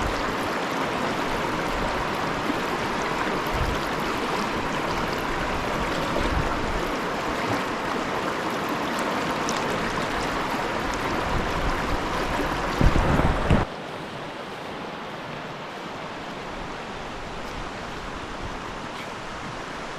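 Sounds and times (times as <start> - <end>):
creek water rushing: 0.0 - 19.9.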